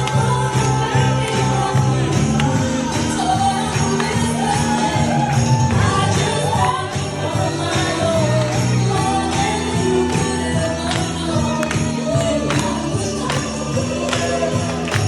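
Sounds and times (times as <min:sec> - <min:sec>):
upbeat christmas music: 0:00.0 - 0:15.0.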